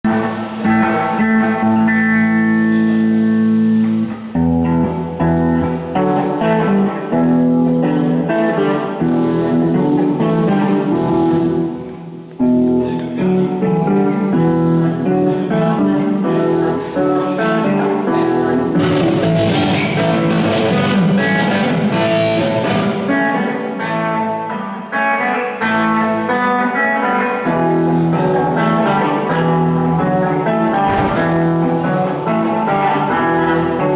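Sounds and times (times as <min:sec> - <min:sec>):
instrumental guitar music: 0:00.0 - 0:33.9.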